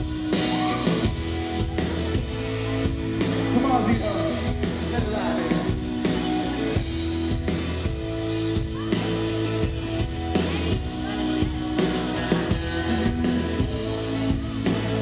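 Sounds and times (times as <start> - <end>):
drum kit beat: 0.0 - 15.0
electric guitar chords: 0.0 - 15.0.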